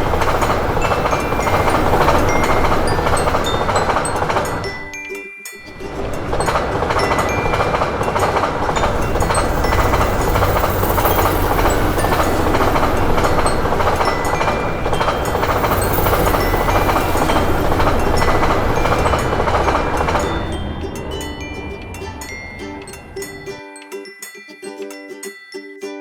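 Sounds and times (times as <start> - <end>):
train wheels rumbling on rails: 0.0 - 23.6
crossing warning bell: 0.0 - 25.8.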